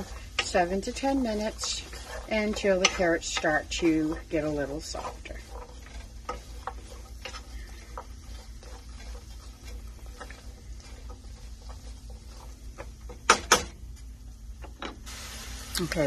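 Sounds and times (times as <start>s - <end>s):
wooden spoon stirring in a pan: 0.0s - 16.0s.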